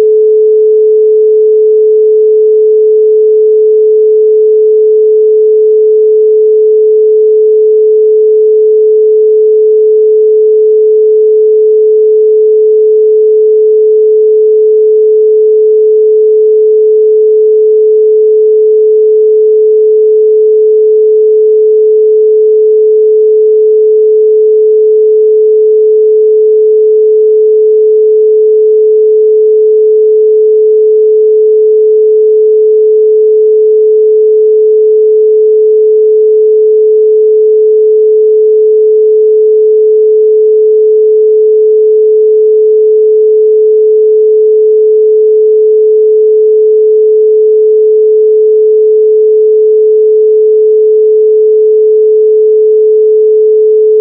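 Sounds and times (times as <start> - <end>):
pure sine tone: 0.0 - 54.0.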